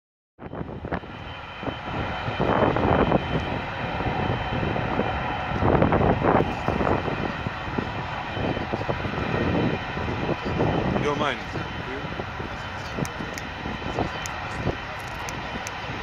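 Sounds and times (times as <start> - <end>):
jet engines rumbling: 0.4 - 16.0
wind buffeting microphone: 0.4 - 16.0.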